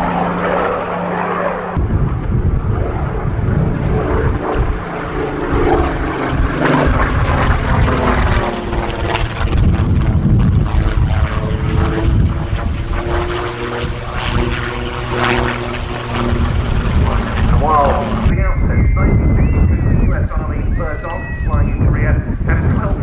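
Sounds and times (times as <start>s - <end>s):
propeller aircraft flying past: 0.0s - 18.5s.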